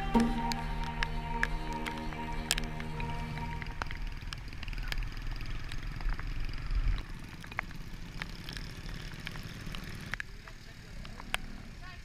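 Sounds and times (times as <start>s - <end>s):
sharp clicks: 0.0s - 10.3s
motorbike engine and wind rumble: 0.0s - 12.0s.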